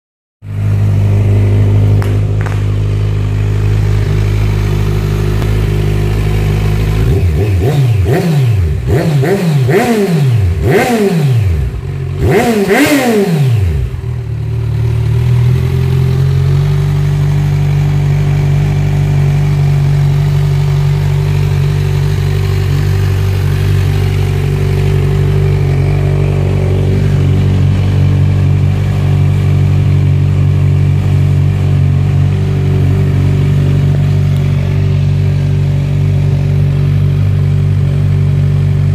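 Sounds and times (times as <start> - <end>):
motorcycle engine idling: 0.5 - 38.9.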